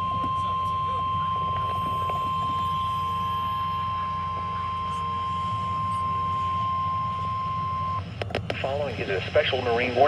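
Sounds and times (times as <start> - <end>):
low hum: 0.0 - 10.0
steady high-pitched alarm tone: 0.0 - 10.0.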